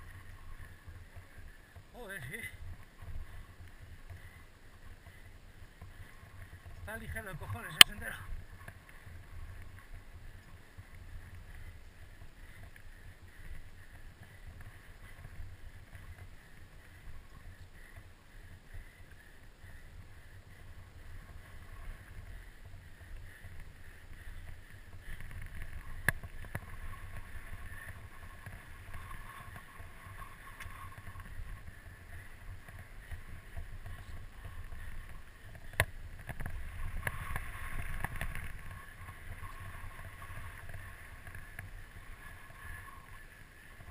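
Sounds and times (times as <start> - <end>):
tyres rumbling on dirt trail: 0.0 - 43.9.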